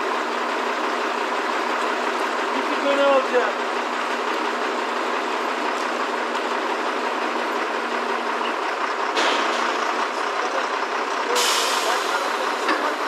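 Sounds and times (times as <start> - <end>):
crane engine and hydraulics: 0.0 - 13.0.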